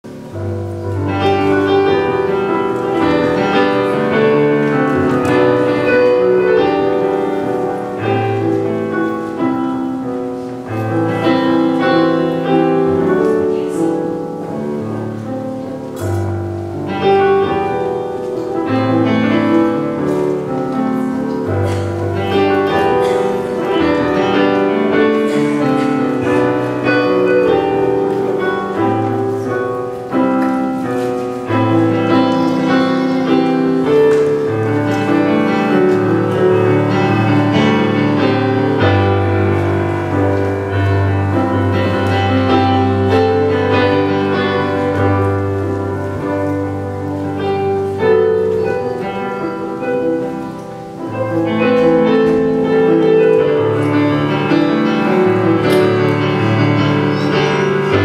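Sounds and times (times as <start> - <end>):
low piano bass notes: 0.0 - 58.0
piano chords: 0.0 - 58.0.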